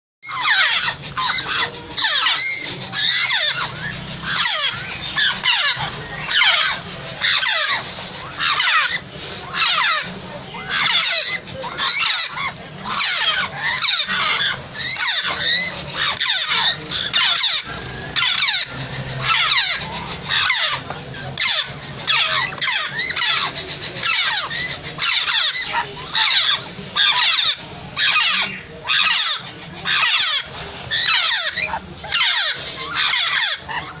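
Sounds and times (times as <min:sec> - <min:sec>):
parrot chicks squawking: 0:00.2 - 0:34.0.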